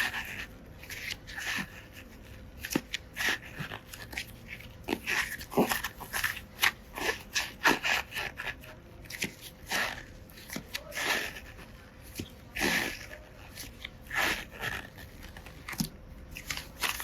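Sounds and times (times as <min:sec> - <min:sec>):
hands squishing crunchy slime: 0:00.0 - 0:17.0.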